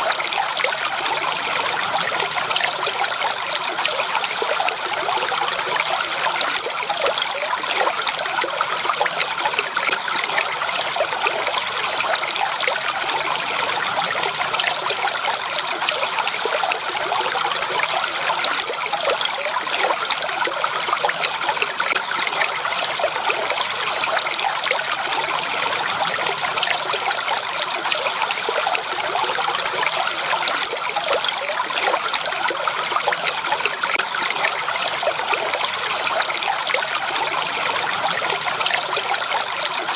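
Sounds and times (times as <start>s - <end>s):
stream water babbling over stones: 0.0s - 39.9s.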